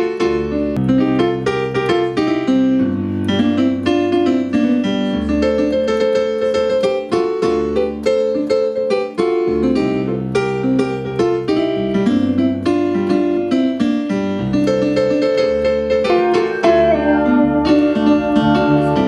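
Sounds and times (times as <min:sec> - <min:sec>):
keyboard playing notes and chords: 0:00.0 - 0:19.0.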